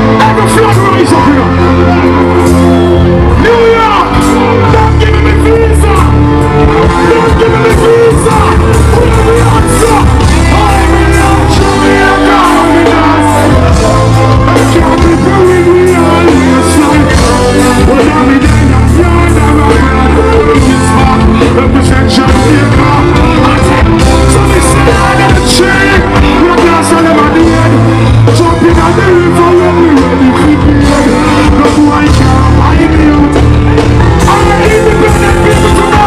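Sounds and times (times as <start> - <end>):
dancehall music: 0.0 - 36.0
heavy pulsing bass line: 0.0 - 36.0
person singing: 0.0 - 36.0.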